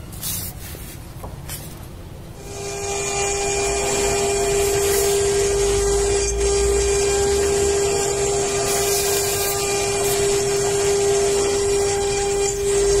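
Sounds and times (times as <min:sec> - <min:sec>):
rotary tiller motor droning: 0:02.4 - 0:13.0.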